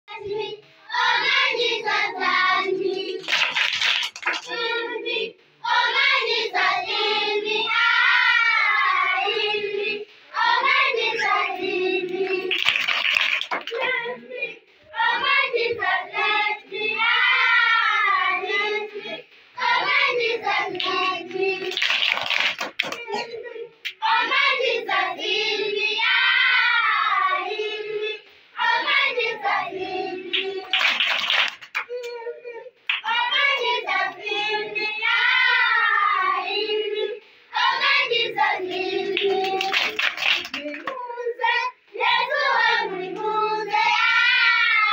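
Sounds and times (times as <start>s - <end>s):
children singing: 0.1s - 30.7s, 31.8s - 44.9s.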